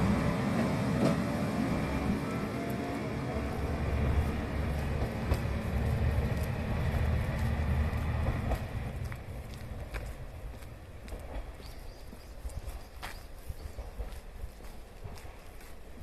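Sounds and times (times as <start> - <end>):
diesel railcar rumbling: 0.0 - 16.0.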